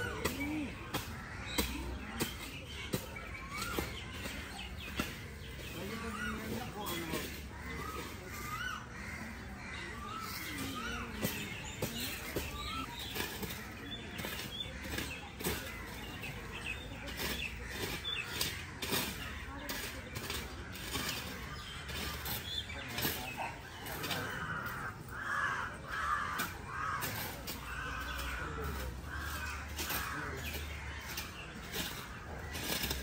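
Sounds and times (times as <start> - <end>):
crows cawing: 0.0 - 2.3, 3.4 - 22.8, 23.5 - 33.0
faint voices: 0.0 - 33.0
shovels scraping in embers and sand: 0.0 - 33.0.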